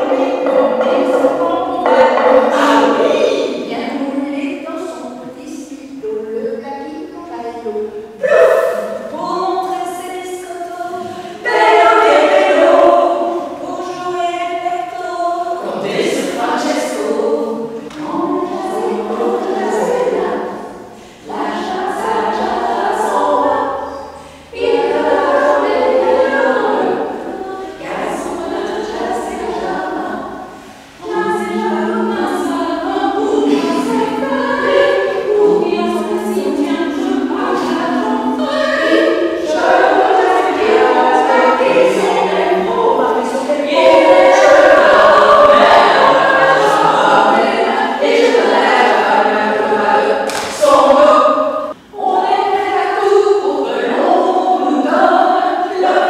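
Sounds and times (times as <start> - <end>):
women singing in harmony: 0.0 - 6.6, 7.8 - 56.0.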